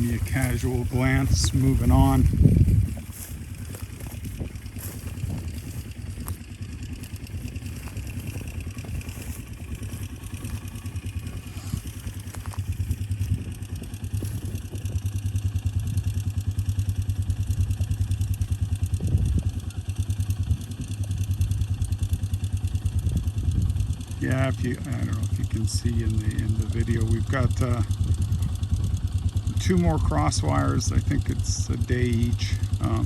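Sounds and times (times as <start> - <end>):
atv engine running: 0.0 - 33.0.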